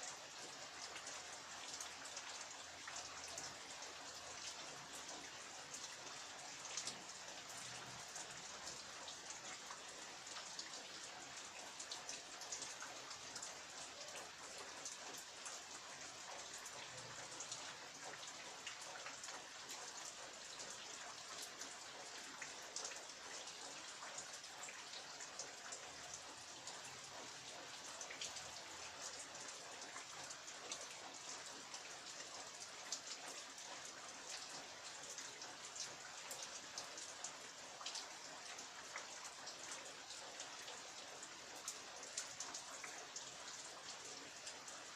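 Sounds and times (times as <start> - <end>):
raindrops ticking close by: 0.0 - 44.9.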